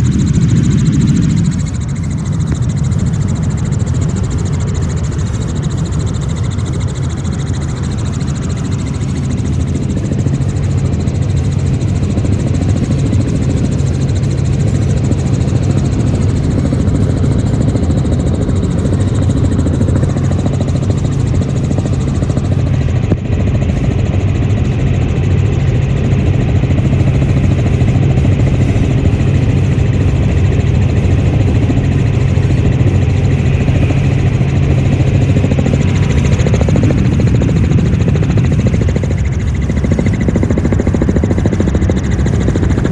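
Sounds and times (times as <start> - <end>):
helicopter cabin drone: 0.0 - 42.9.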